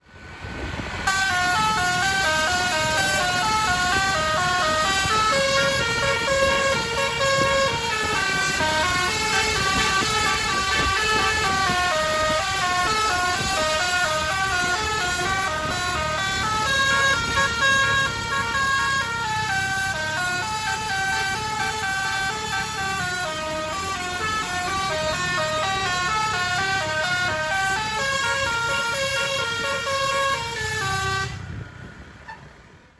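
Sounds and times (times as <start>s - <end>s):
multi-tone air horn melody: 1.0s - 31.5s.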